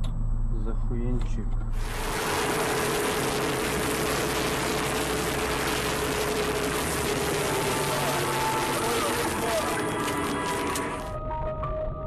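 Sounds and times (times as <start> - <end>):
faint steady hum: 0.0 - 11.2
car engine and road noise: 0.0 - 12.0.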